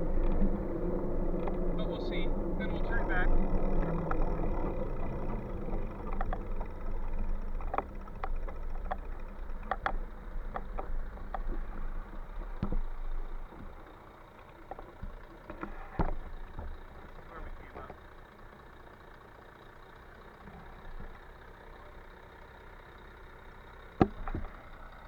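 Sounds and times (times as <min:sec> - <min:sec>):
bike clicks and rattles: 0:00.0 - 0:21.7, 0:22.9 - 0:25.0
wind and road rumble: 0:00.0 - 0:25.0.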